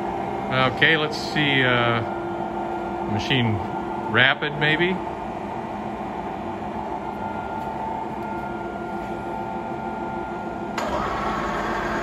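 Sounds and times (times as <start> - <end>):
lathe motor humming: 0.0 - 12.0.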